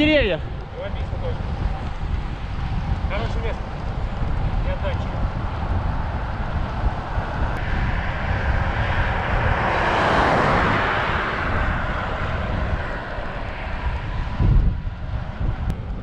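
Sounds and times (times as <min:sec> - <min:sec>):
vehicle passing: 0:00.0 - 0:16.0
wind rumble on microphone: 0:00.0 - 0:16.0.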